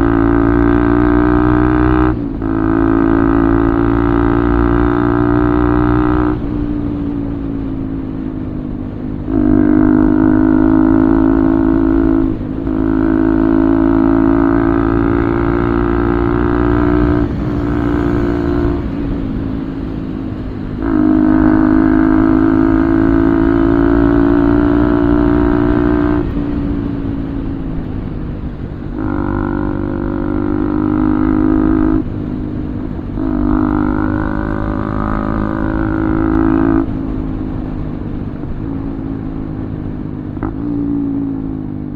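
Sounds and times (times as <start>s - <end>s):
motorcycle engine revving: 0.0s - 8.1s, 9.2s - 41.9s.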